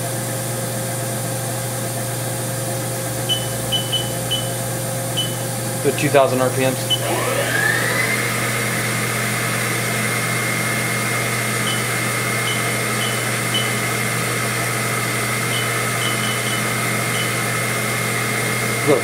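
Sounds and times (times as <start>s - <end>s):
machine spindle whining: 2.6s - 19.0s.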